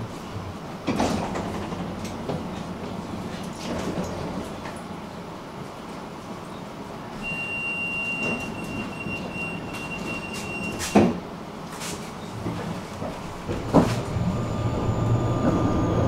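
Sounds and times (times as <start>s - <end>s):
tram whine: 0.0s - 16.0s.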